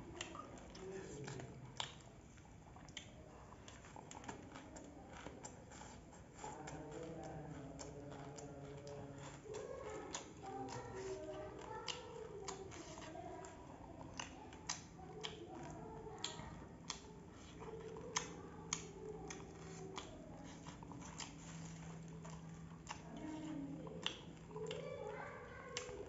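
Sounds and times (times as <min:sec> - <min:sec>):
chewing crunchy food: 0:00.0 - 0:26.0.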